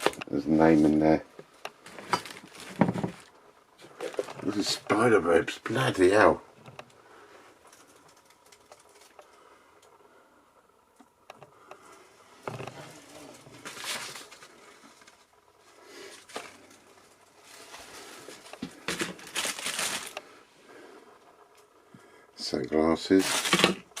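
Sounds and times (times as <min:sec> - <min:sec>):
clutter rustling and crinkling: 0:00.0 - 0:10.0, 0:10.9 - 0:24.0.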